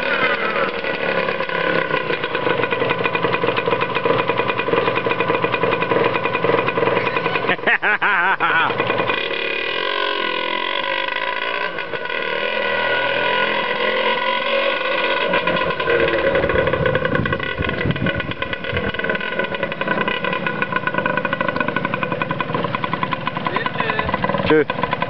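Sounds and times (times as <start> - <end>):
two-stroke engine idling: 0.0 - 25.0.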